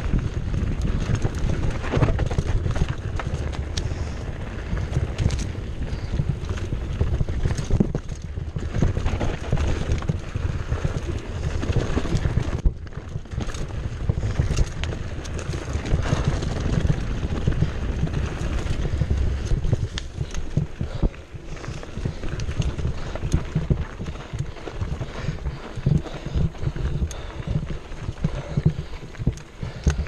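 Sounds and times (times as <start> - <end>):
bike rattling over bumps: 0.0 - 30.0
wind buffeting microphone: 0.0 - 30.0.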